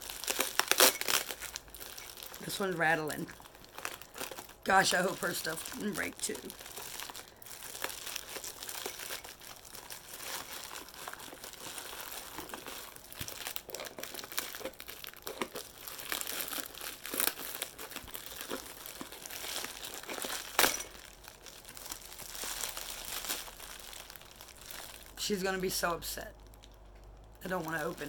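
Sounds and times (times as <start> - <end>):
packing wrap crinkling: 0.0 - 28.0.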